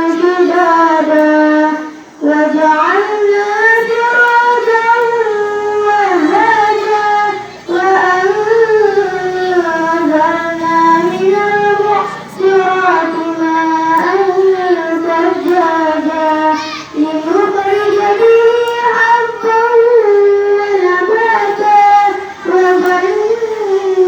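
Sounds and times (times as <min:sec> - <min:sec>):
girl chanting recitation: 0:00.0 - 0:24.0.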